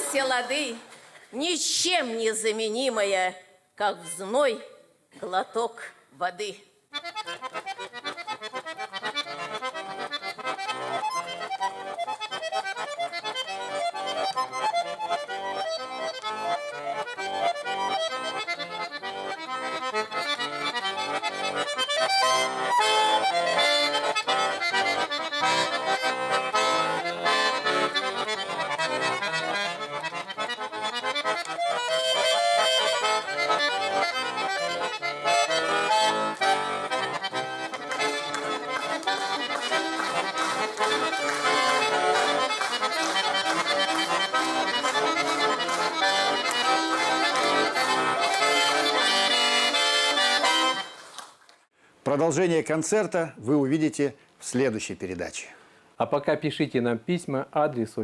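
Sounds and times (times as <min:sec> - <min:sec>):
accordion playing folk tune: 0:00.0 - 0:04.6, 0:06.9 - 0:51.1.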